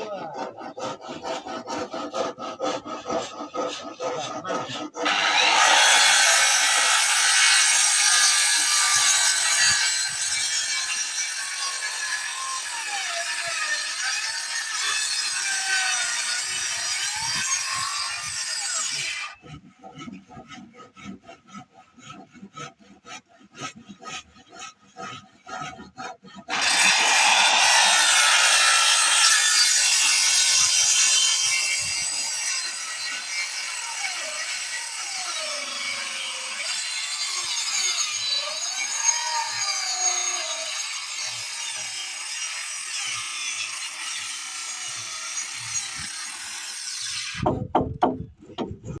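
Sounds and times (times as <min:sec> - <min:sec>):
circular saw cutting wood: 0:00.0 - 0:49.0.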